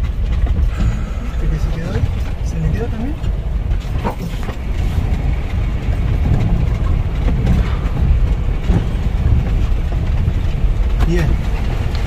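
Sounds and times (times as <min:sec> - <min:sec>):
cab rattling: 0:00.0 - 0:12.0
rain on a windscreen: 0:00.0 - 0:12.0
road rumble inside a vehicle: 0:00.0 - 0:12.0.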